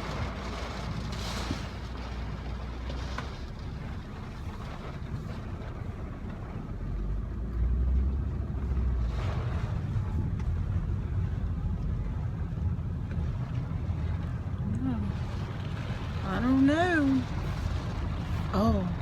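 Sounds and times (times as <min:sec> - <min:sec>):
car engine and road rumble: 0:00.0 - 0:19.0
deeper rumble: 0:00.0 - 0:19.0.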